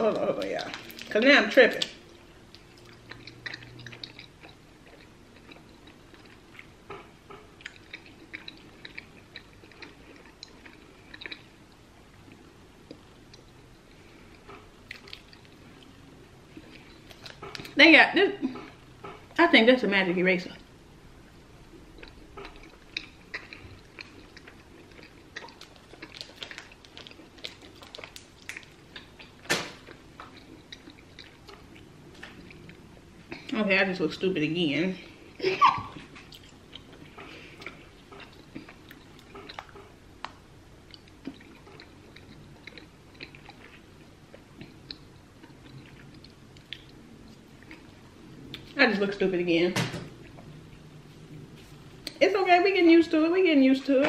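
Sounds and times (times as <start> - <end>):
person chewing gum: 0.0 - 17.8, 21.6 - 33.6, 35.0 - 48.8.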